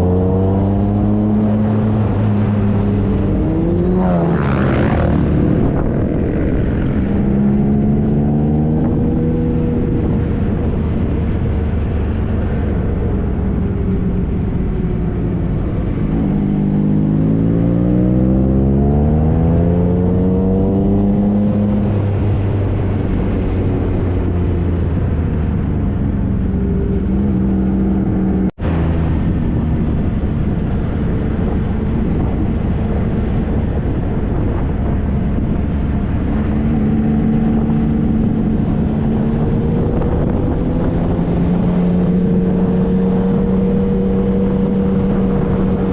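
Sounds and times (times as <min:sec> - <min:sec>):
road and wind noise: 0:00.0 - 0:45.9.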